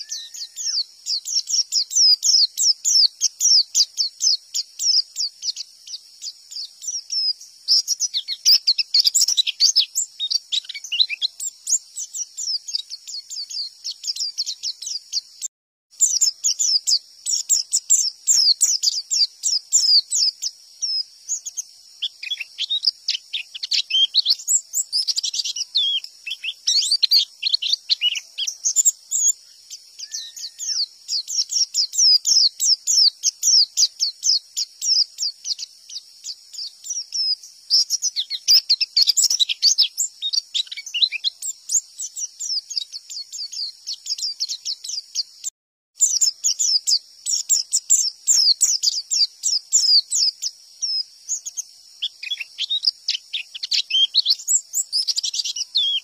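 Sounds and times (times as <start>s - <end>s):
bird chirping and twittering: 0.0s - 56.0s.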